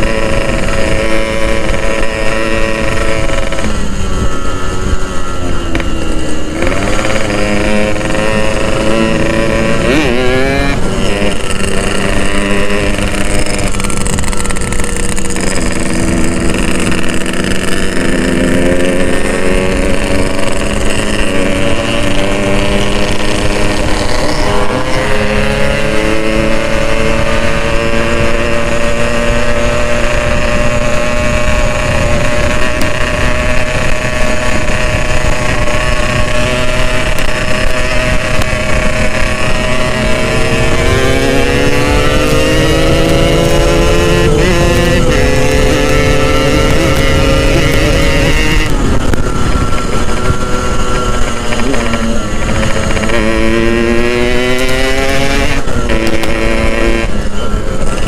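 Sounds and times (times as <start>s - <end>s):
two-stroke motorcycle engine: 0.0s - 58.0s
wind on microphone: 0.0s - 58.0s.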